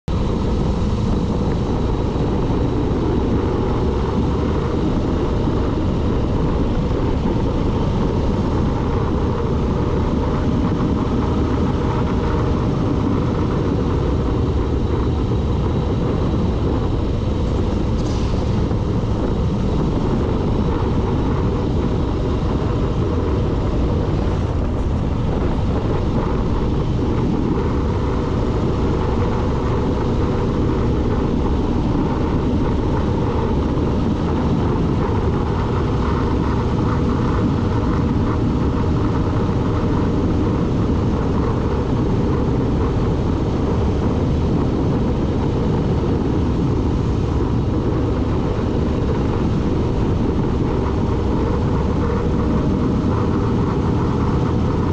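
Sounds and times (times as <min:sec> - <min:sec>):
vehicle driving noise: 0:00.0 - 0:54.9.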